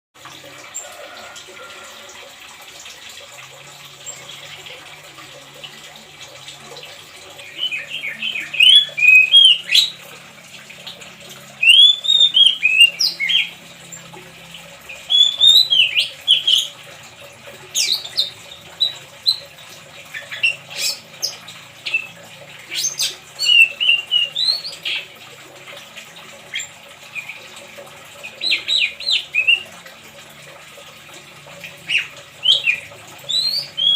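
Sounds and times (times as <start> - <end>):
trickle of running water: 0.2 - 33.9.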